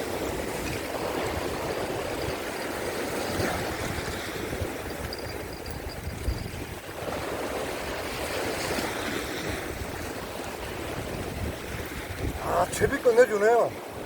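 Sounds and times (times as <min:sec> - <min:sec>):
sea surf on rocks: 0:00.0 - 0:14.0
wind buffeting microphone: 0:00.0 - 0:14.0.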